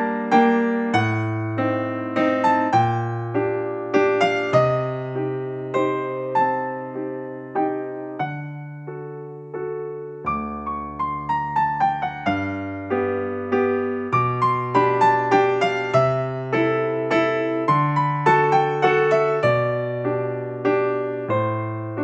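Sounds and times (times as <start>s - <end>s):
slow electric piano melody: 0.0s - 22.0s.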